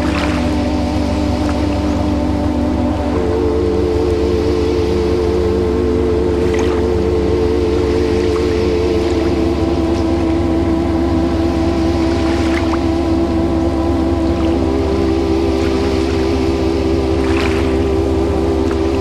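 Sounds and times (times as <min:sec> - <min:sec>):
ambient music drone: 0:00.0 - 0:19.0.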